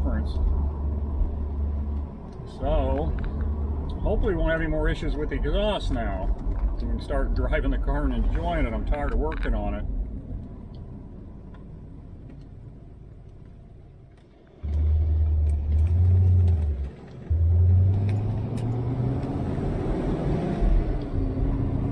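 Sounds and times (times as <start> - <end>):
car engine deep drone: 0.0 - 21.9.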